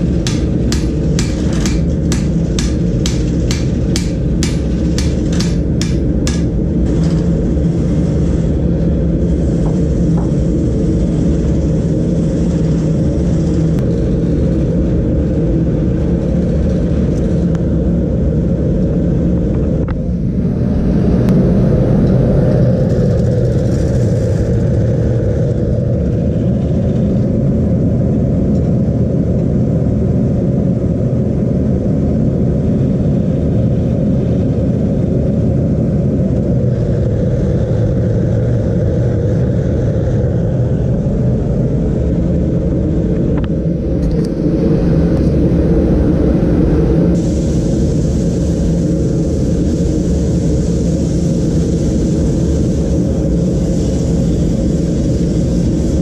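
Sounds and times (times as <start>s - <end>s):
propane burner roaring: 0.0s - 56.0s.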